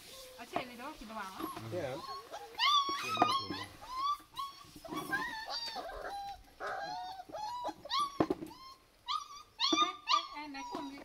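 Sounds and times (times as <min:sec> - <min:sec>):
puppies whimpering and whining: 0:00.0 - 0:11.0.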